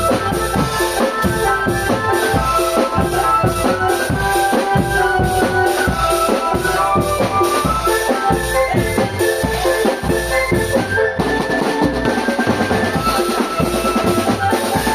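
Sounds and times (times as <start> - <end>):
bass and snare drums beating: 0.0 - 14.9
melody of pitched notes: 0.0 - 14.9.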